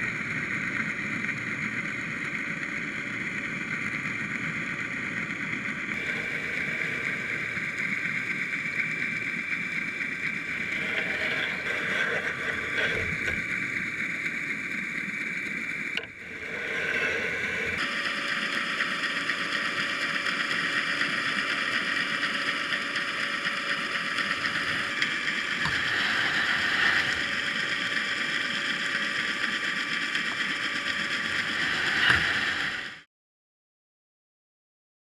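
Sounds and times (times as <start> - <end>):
mechanical drone with hiss: 0.0 - 33.0.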